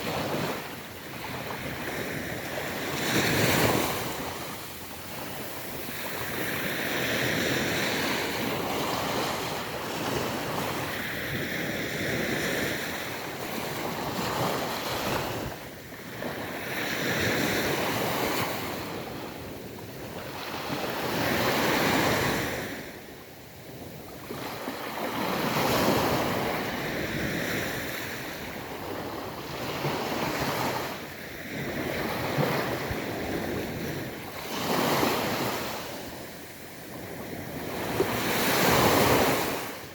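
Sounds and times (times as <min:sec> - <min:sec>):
ocean waves breaking on beach: 0:00.0 - 0:39.9
wind: 0:00.0 - 0:39.9.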